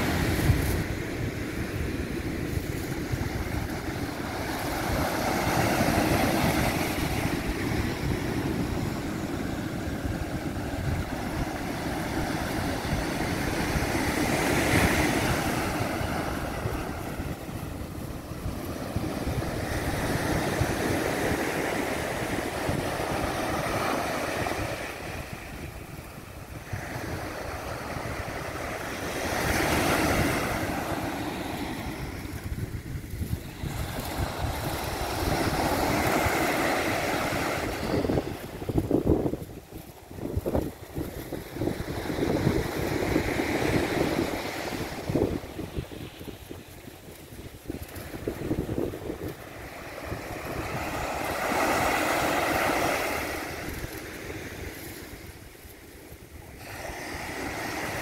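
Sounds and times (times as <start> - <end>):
ocean surf breaking on beach: 0.0 - 58.0
wind rumbling on microphone: 0.0 - 58.0.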